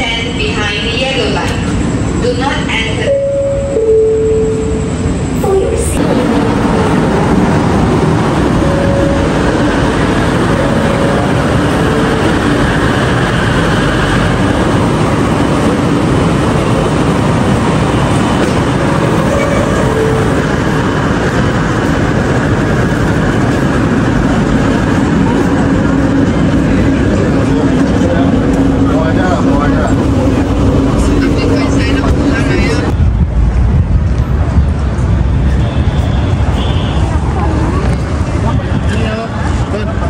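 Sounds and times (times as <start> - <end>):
metro train rumble and hum: 0.0 - 40.0.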